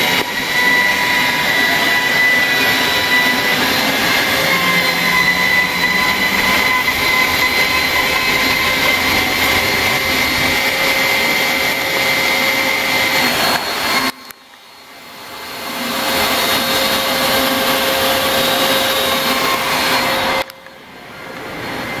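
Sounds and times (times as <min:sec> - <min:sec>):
router spindle whining milling wood: 0:00.0 - 0:20.8.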